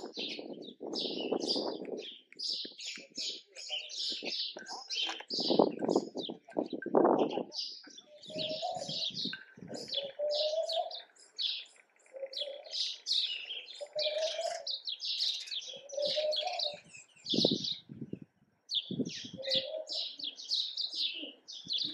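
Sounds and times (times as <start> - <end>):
doves cooing: 0.0 - 18.0, 18.7 - 21.9
small birds chirping: 0.0 - 21.9.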